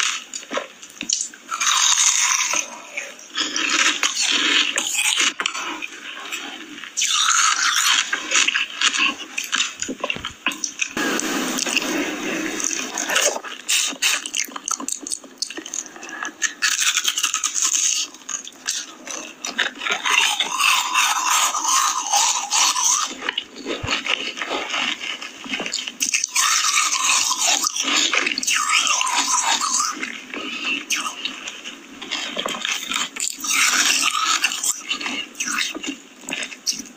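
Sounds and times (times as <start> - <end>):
wet sticky eating sounds: 0.0 - 36.9.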